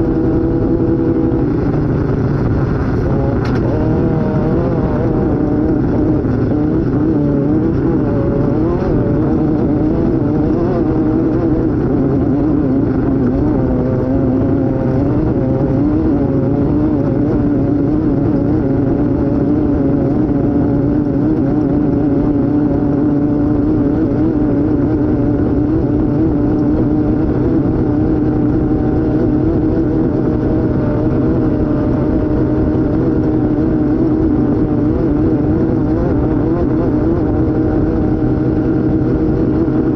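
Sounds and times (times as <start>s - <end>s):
dense low rumble: 0.0s - 39.9s
race vehicle engine running hard: 0.0s - 39.9s.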